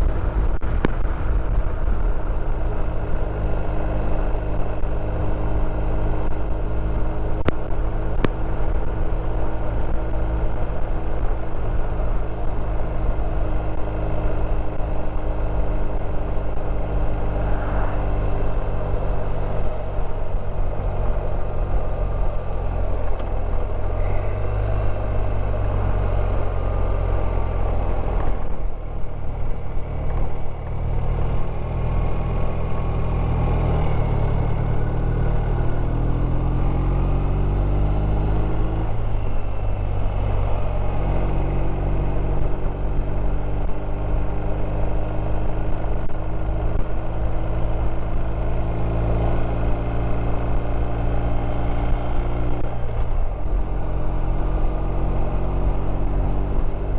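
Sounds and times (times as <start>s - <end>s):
motorcycle engine running: 0.0s - 56.9s
road and wind noise: 0.0s - 56.9s.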